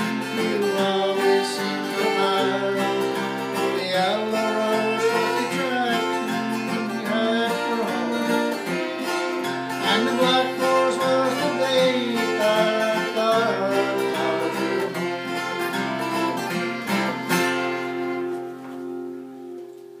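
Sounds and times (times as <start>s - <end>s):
acoustic guitar strummed: 0.0s - 20.0s.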